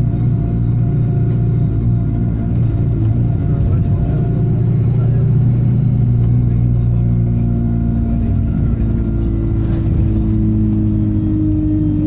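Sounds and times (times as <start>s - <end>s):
bus diesel engine drone: 0.0s - 12.0s
engine whining tones: 0.0s - 12.0s.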